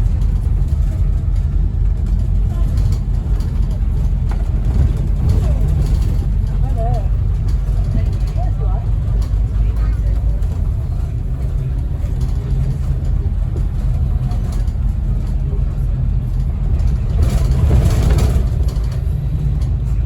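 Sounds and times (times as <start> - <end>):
bus diesel engine rumbling: 0.0 - 20.0.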